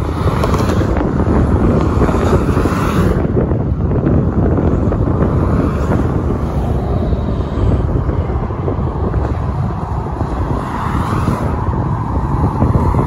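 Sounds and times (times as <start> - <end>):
car passing: 0.0 - 13.0
road traffic rumble: 0.0 - 13.0
wind on microphone: 0.0 - 13.0.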